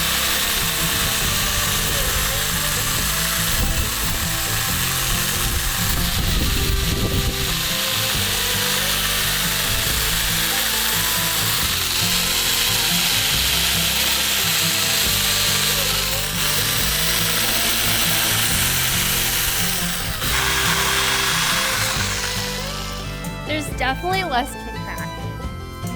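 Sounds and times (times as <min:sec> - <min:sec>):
chainsaw cutting pumpkin: 0:00.0 - 0:25.9.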